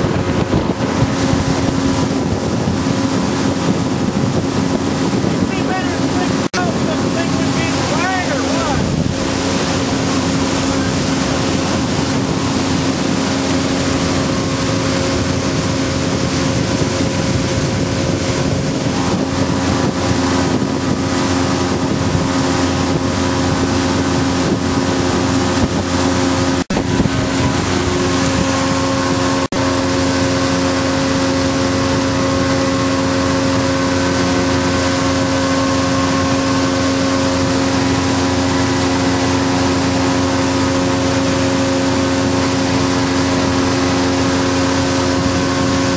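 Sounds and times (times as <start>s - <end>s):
motorboat engine humming: 0.0s - 45.9s
rushing water noise: 0.0s - 45.9s.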